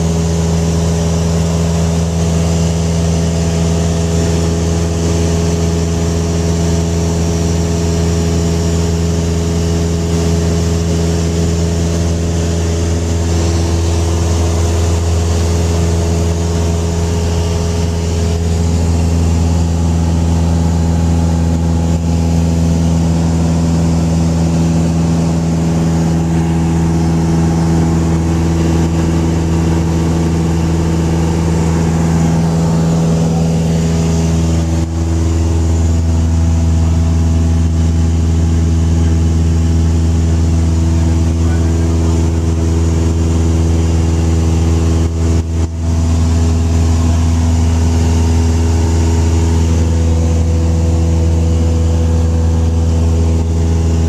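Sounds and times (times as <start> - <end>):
light plane engine drone: 0.0 - 54.0.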